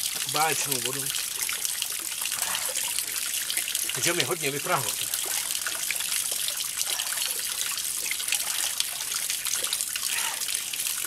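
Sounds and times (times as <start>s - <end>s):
water trickling into pool: 0.0s - 11.0s.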